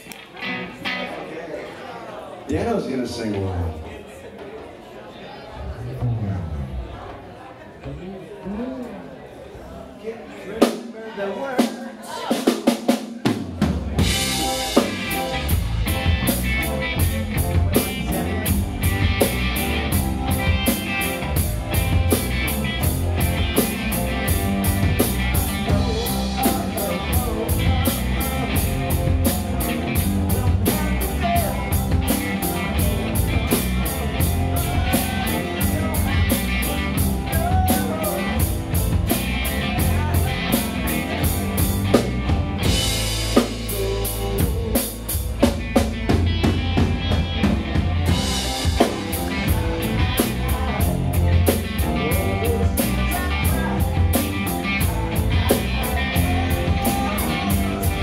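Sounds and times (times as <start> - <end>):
rock band playing live: 0.0 - 1.3, 10.6 - 58.0.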